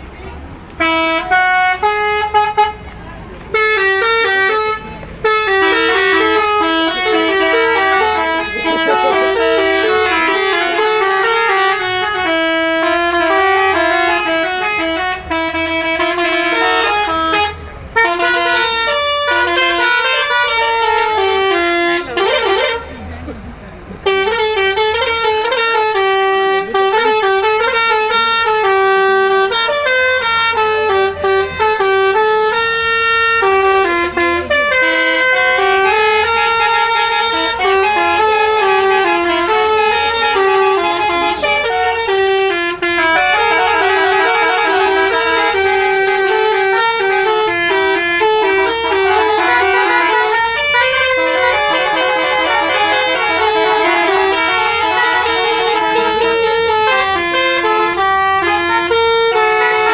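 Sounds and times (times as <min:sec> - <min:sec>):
multi-tone horn playing melody: 0:00.7 - 0:02.9, 0:03.5 - 0:23.2, 0:24.0 - 0:59.9.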